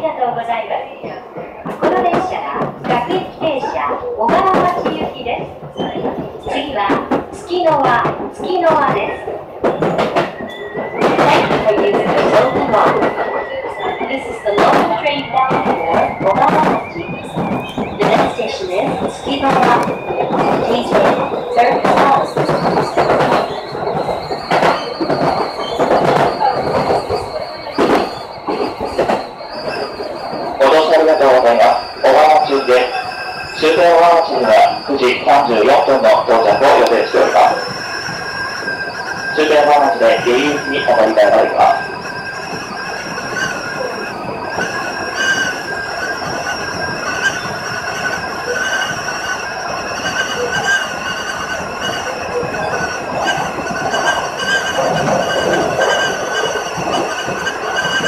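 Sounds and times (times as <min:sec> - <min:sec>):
high-pitched train whine: 0:00.0 - 0:58.0
train wheels clattering on rail joints: 0:00.3 - 0:58.0
high-pitched ringing tones: 0:09.7 - 0:58.0.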